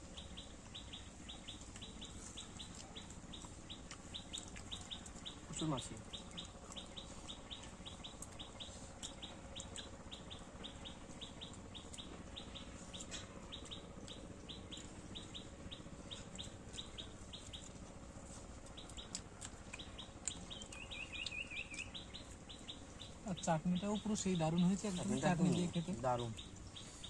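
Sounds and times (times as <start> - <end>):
small bird chirping: 0.0 - 27.0.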